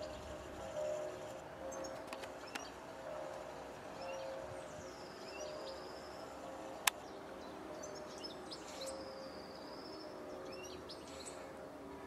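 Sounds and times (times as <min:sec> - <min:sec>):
songbirds trilling and chirping: 0:00.0 - 0:12.0.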